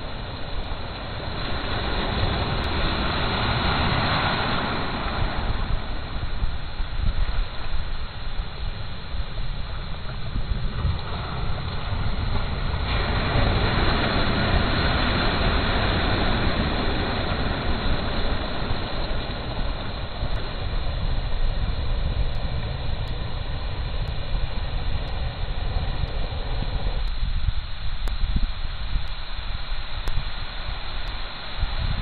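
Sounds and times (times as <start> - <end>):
low rumble: 0.0 - 32.0
sea waves breaking on shore: 0.0 - 32.0.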